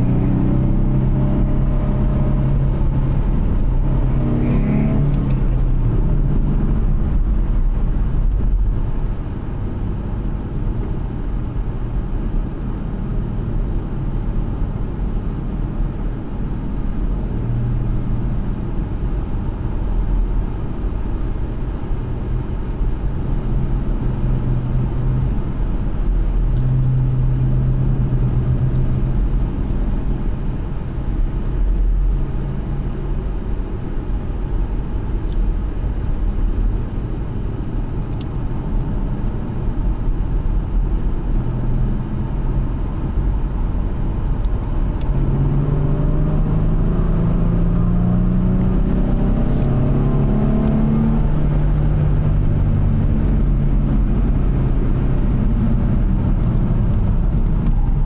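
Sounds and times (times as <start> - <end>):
car engine in cabin: 0.0 - 58.0
road rumble: 0.0 - 58.0.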